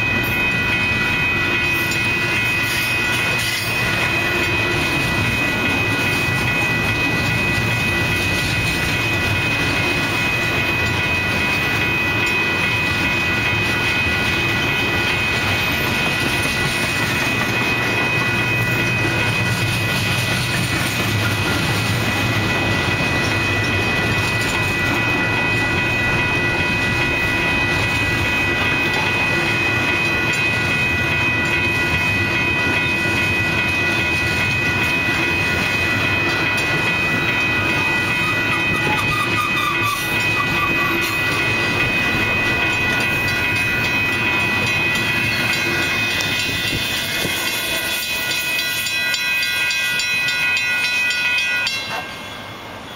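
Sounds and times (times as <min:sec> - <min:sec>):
freight train wheels on rail: 0:00.0 - 0:52.9
high-pitched ringing tone: 0:00.0 - 0:52.9.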